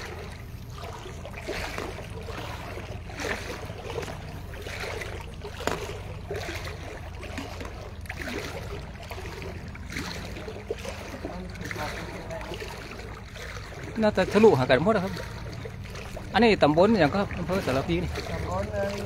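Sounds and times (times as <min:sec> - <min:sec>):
legs wading through water: 0:00.0 - 0:19.0
steady low hum: 0:00.0 - 0:19.0.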